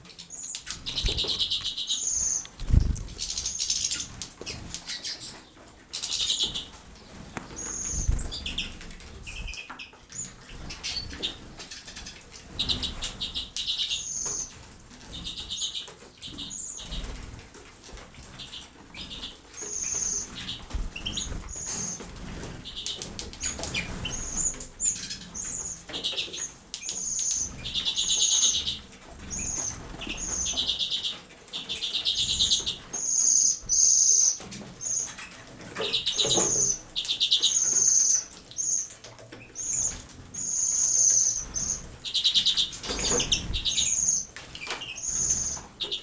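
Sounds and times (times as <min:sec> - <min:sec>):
birds fluttering wings in water: 0:00.2 - 0:46.0.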